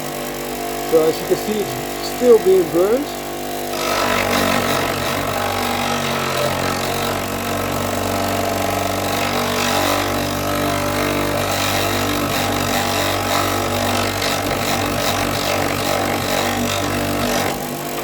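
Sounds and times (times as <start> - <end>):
power tool grinding wood: 0.0 - 18.0.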